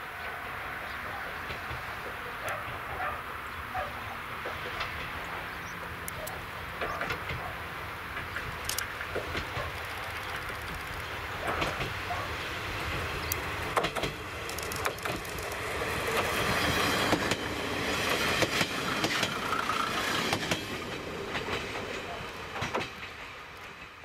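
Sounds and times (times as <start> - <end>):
diesel railcar engines running: 0.0 - 24.0
wheels clacking over rail joints: 4.3 - 24.0.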